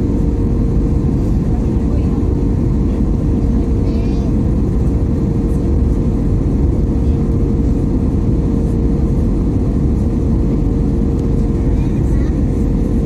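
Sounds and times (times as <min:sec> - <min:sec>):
engine and airflow rumble: 0:00.0 - 0:13.0
mid-pitched hum: 0:00.0 - 0:13.0.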